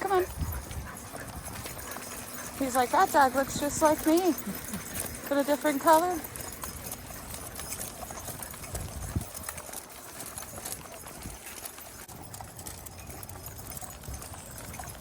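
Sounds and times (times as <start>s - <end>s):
light footsteps: 0.0s - 15.0s.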